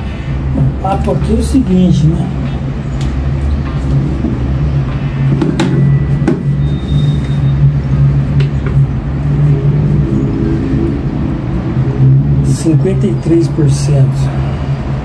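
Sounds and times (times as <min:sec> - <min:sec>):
heavy engine hum: 0:00.0 - 0:15.0
traffic rumble: 0:00.0 - 0:15.0.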